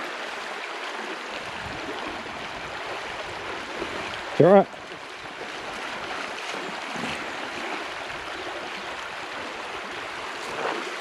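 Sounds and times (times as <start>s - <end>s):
river water flowing over stones: 0.0s - 11.0s.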